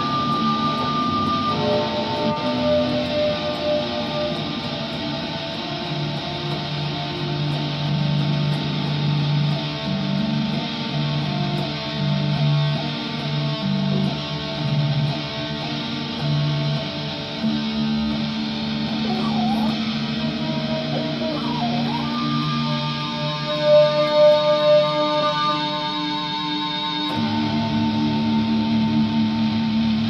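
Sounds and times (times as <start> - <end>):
electric guitar: 0.0 - 30.0.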